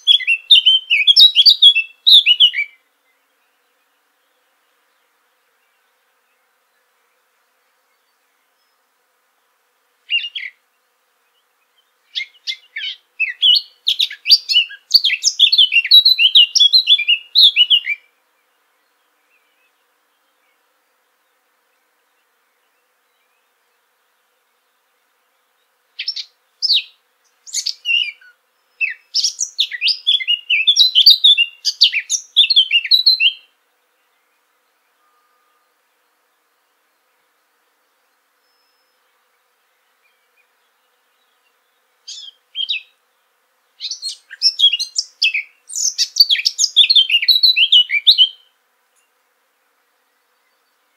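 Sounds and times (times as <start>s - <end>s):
bird warbling song: 0.0s - 7.2s, 10.1s - 20.6s, 21.2s - 35.8s, 36.4s - 43.0s, 43.8s - 49.2s.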